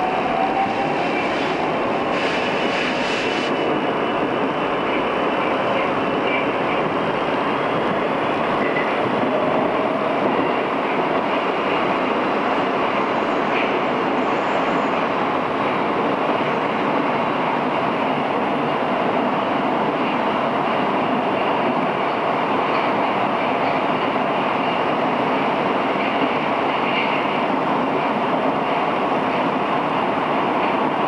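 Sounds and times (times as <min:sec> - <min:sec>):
train wheels rushing on rails: 0:00.0 - 0:31.0.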